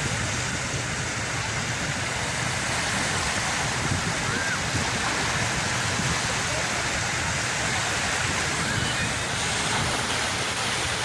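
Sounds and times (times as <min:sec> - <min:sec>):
sea surf washing on shore: 0:00.0 - 0:11.0.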